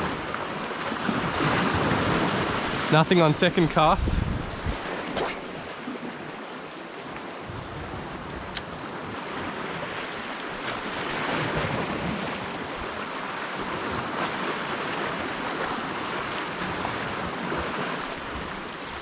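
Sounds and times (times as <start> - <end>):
waves breaking over rocks: 0.0 - 19.0.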